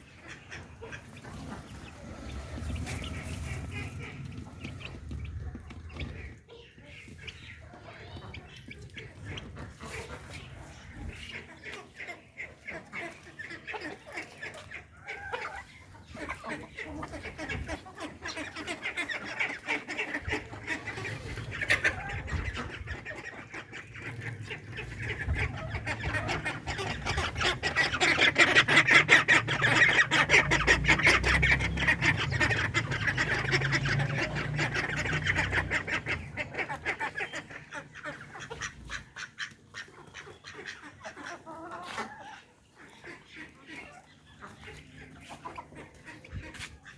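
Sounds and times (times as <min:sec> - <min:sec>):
ducks quacking: 0:00.0 - 0:46.9.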